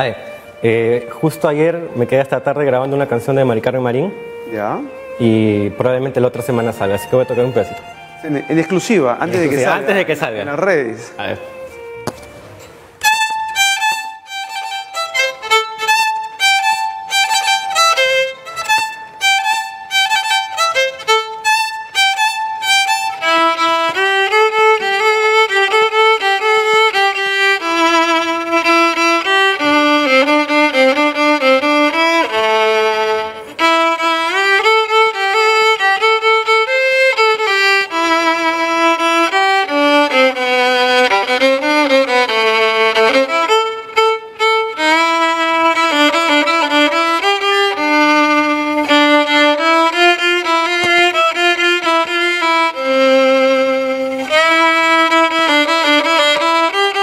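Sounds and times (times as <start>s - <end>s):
solo violin melody: 0.0s - 57.0s.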